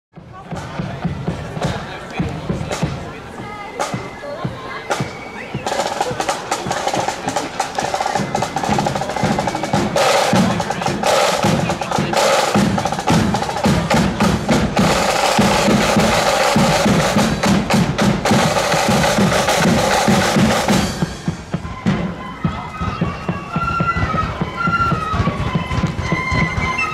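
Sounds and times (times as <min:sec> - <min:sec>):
snare drum rolls: 0:00.2 - 0:26.9.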